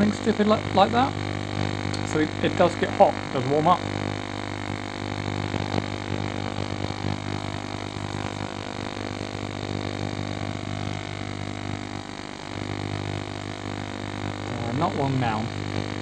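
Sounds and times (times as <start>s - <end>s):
ultrasonic cleaner buzzing: 0.0s - 16.0s.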